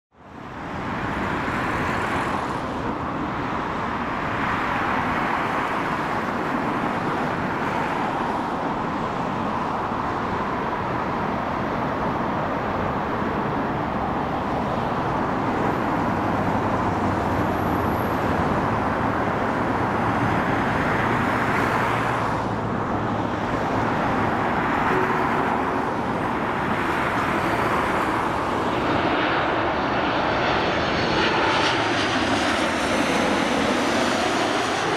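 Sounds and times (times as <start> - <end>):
jet airliner engines: 0.1 - 34.9
road traffic roar: 0.1 - 34.9
vehicles passing: 0.2 - 34.9.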